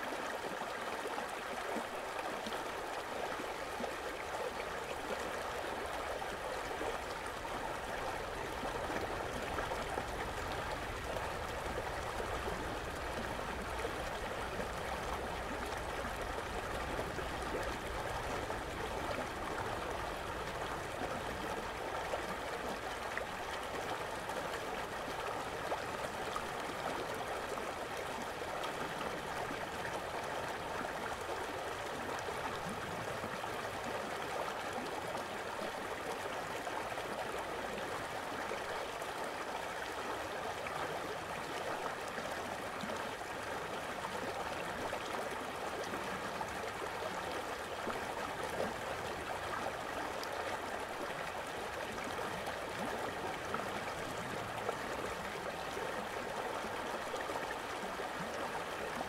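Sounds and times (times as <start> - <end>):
stream pouring over weir: 0.0 - 59.0.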